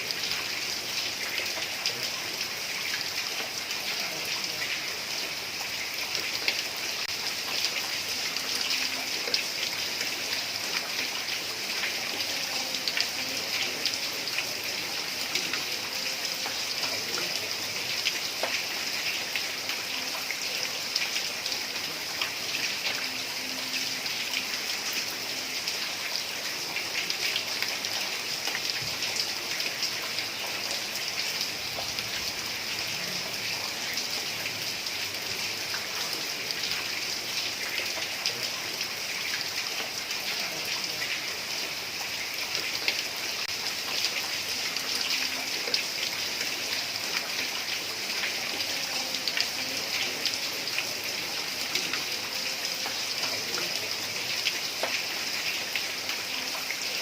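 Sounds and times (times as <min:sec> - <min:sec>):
heavy rain on tiled roof: 0:00.0 - 0:57.0.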